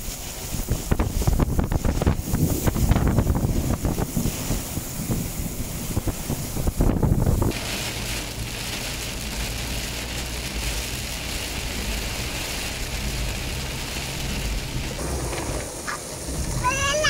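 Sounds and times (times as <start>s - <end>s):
car engine hum: 0.0s - 17.0s
heavy rain on wet road: 0.0s - 17.0s
wind buffeting microphone: 0.0s - 17.0s.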